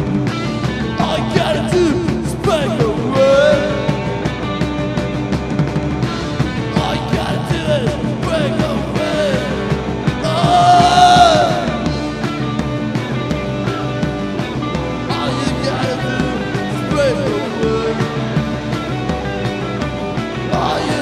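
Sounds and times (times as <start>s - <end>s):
bending guitar lead lines: 0.0s - 21.0s
live rock band playing: 0.0s - 21.0s
steady drum beat: 0.0s - 21.0s.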